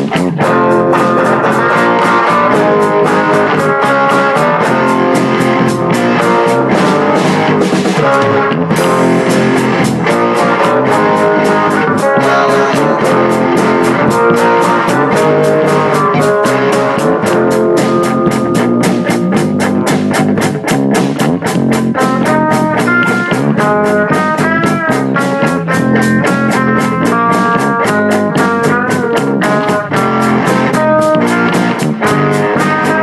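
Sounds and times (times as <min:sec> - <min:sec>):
quick drum beat: 0:00.0 - 0:33.0
rock music with bending guitar: 0:00.0 - 0:33.0.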